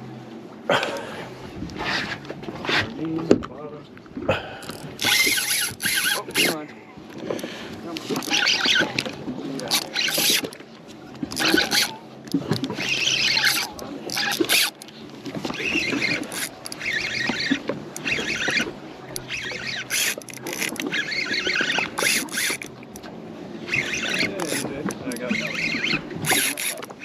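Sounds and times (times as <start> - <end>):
low steady hum: 0.0 - 27.0
water sloshing against boat hull: 0.0 - 27.0.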